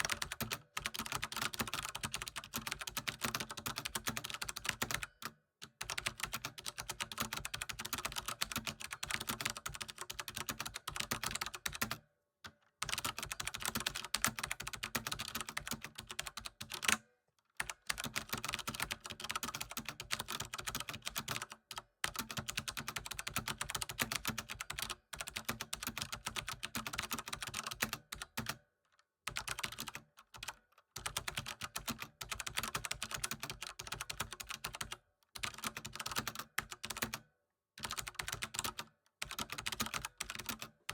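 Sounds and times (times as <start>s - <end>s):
rapid typing on keyboard: 0.0s - 12.0s, 12.8s - 17.0s, 17.6s - 28.6s, 29.3s - 40.9s.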